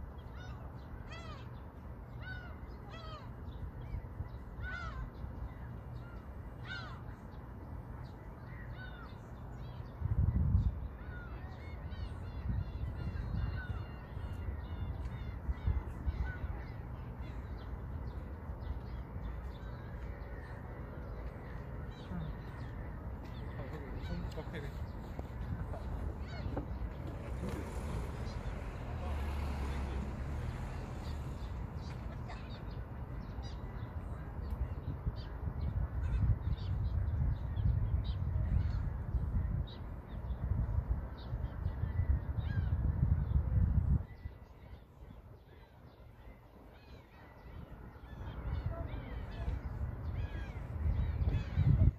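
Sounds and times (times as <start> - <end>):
birds calling: 0.0 - 51.9
wind rumble on microphone: 7.6 - 51.9.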